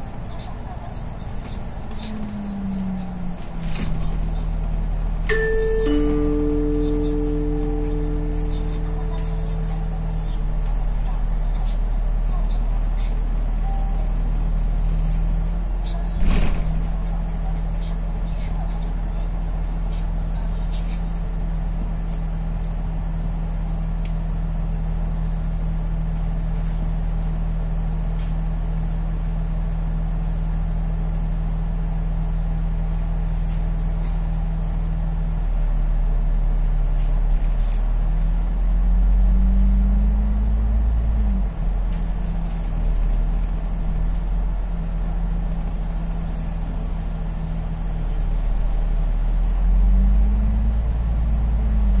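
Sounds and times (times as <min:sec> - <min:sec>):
bus engine idling and revving: 0:00.0 - 0:52.0.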